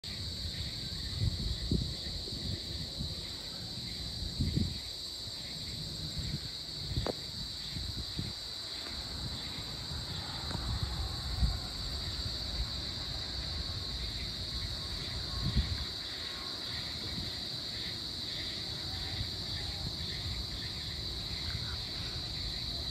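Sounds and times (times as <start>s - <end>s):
insect chorus: 0.0s - 22.9s.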